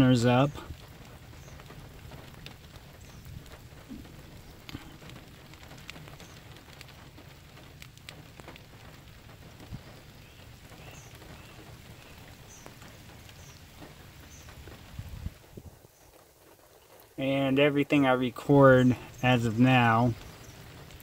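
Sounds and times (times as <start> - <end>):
raindrop hits: 0.0 - 21.0
steady rain hiss: 0.0 - 21.0.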